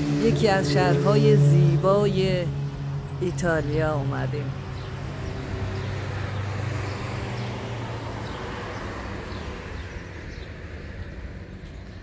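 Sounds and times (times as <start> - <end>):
outdoor noise: 0.0 - 12.0
vehicle engine humming: 0.0 - 12.0.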